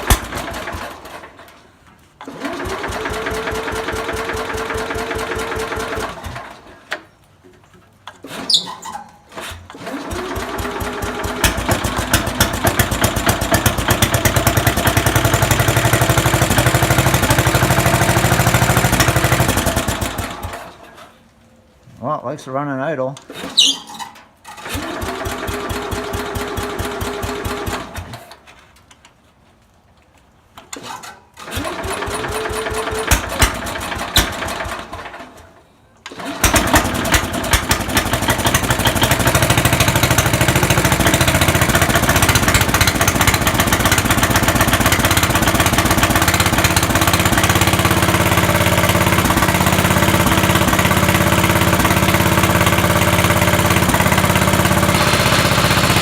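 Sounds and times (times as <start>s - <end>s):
garden tractor engine starting: 0.0s - 21.2s, 22.6s - 29.2s, 30.6s - 56.0s.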